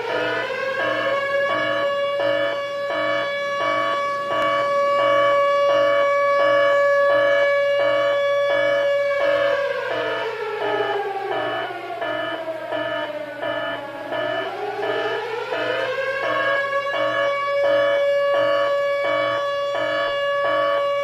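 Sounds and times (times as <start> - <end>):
siren-like wailing tone: 0.0 - 21.0.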